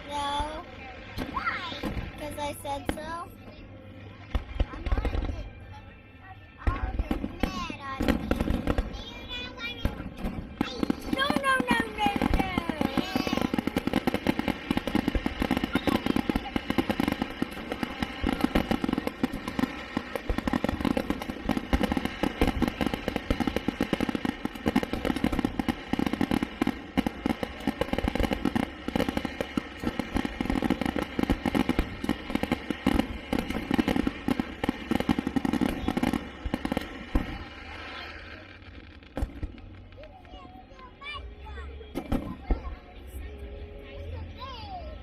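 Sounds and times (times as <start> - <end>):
fireworks bangs and crackles: 0.0 - 5.8, 6.6 - 43.4.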